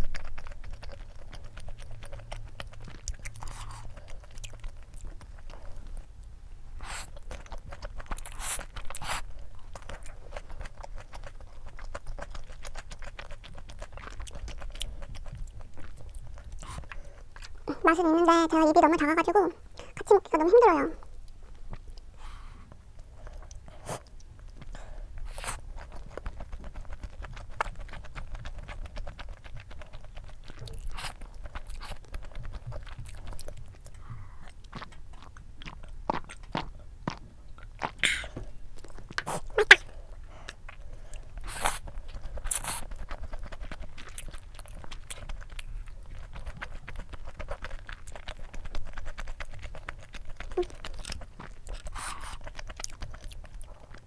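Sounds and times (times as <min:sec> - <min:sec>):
chewing and mouth sounds: 0:00.0 - 0:54.0.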